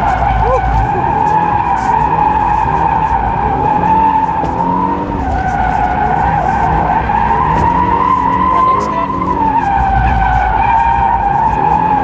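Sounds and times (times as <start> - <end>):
car engine revving: 0.0 - 12.0
tyres squealing: 0.0 - 12.0.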